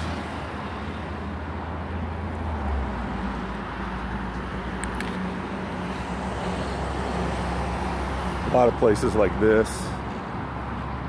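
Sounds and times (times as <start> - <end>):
passing cars rumbling: 0.0 - 11.0.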